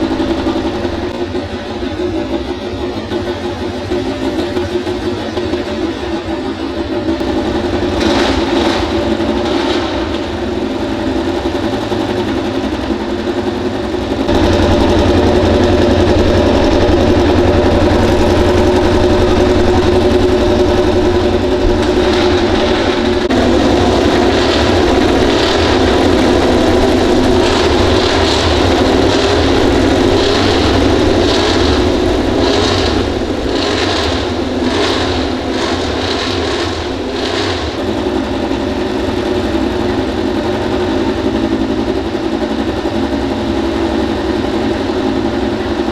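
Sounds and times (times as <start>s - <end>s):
racing motorcycle engine idling: 0.0s - 45.9s.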